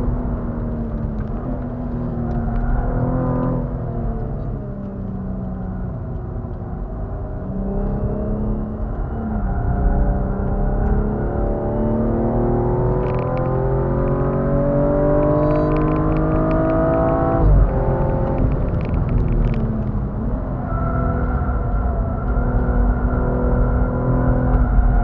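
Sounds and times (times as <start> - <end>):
car engine under full throttle: 0.0 - 25.0.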